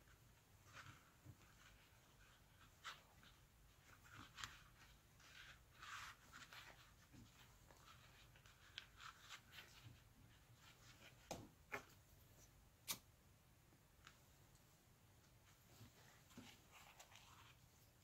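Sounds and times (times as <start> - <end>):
scratching and rustling of fabric: 0.0 - 12.6, 15.3 - 18.0.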